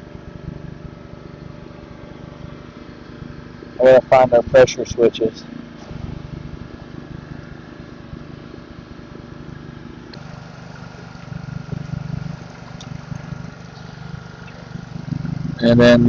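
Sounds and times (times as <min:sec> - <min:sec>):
pressure washer engine running: 0:00.0 - 0:16.0.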